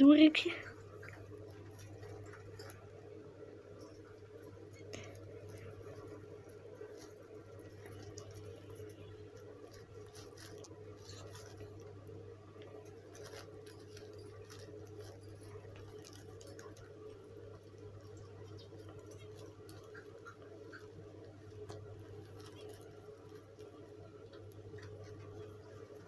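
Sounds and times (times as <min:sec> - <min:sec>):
plastic bag crinkling: 0:00.0 - 0:26.0
steady low hum: 0:00.0 - 0:26.0.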